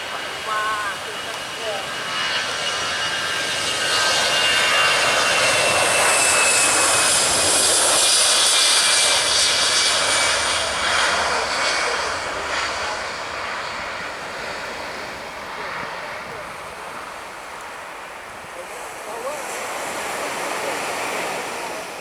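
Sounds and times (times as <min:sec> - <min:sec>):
high engine whine: 0:00.0 - 0:19.4
jet airliner passing overhead: 0:00.0 - 0:22.0.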